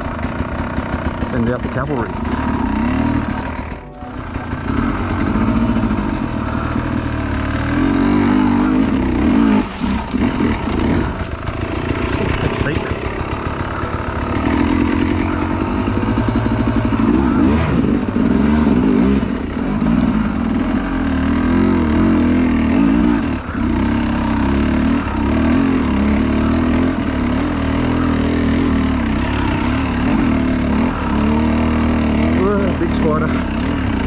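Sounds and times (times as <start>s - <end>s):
dirt bike engine: 0.0s - 34.0s.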